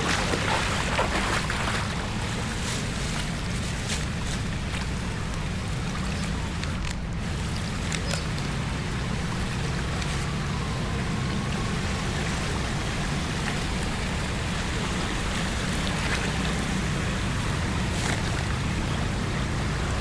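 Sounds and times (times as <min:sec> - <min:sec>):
water on flooded road: 0:00.0 - 0:20.0.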